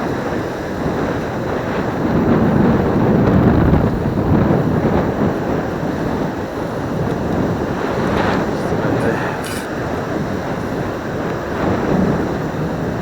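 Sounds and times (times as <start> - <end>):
surf washing on beach: 0.0 - 13.0
wind on microphone: 0.0 - 13.0.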